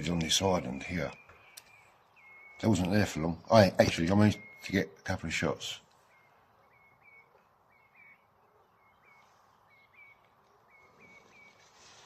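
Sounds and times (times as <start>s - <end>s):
faint bird calls: 0.0s - 12.0s.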